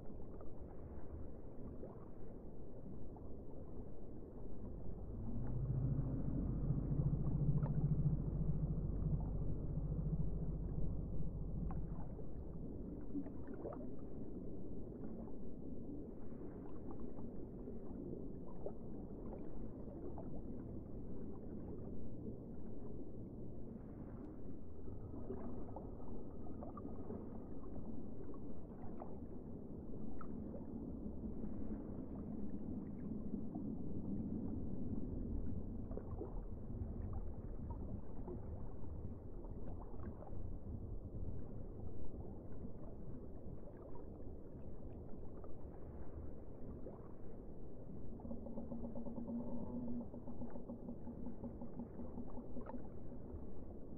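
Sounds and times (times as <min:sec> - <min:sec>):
muffled underwater rumble: 0:00.0 - 0:53.9.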